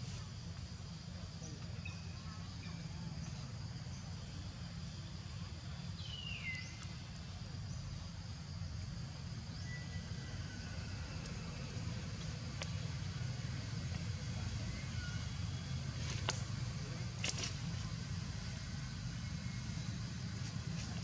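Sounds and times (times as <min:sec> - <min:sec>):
faint chirps: 0:00.0 - 0:21.0.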